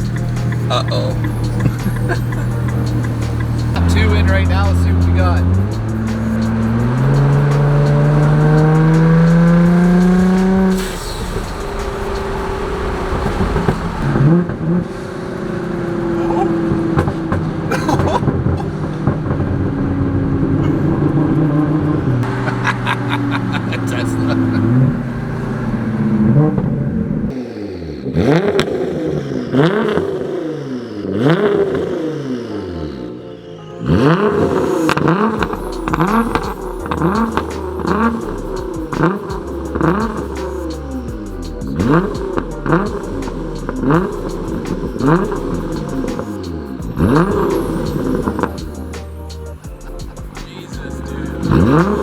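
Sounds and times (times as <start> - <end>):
car engine accelerating hard: 0.0 - 33.2, 33.8 - 52.0.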